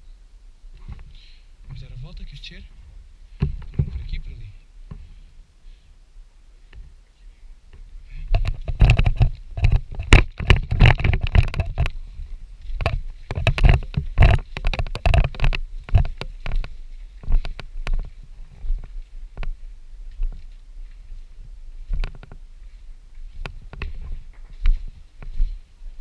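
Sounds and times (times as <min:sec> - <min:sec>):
footsteps crunching through brush: 0:00.6 - 0:26.0.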